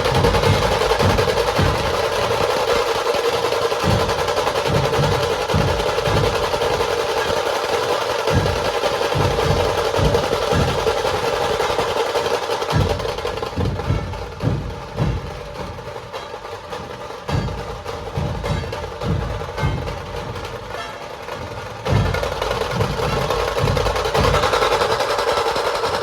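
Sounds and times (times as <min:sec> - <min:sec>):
deep drum beats: 0:00.0 - 0:26.0
rapid drum rolls: 0:00.0 - 0:26.0.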